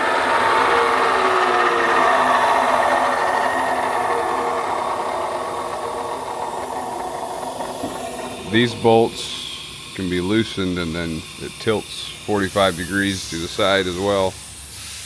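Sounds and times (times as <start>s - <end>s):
chop saw motor winding down: 0.0s - 14.0s.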